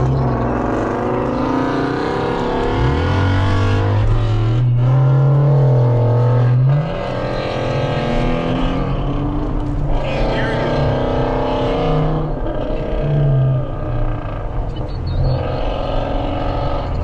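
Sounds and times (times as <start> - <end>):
car engine revving hard: 0.0 - 14.5.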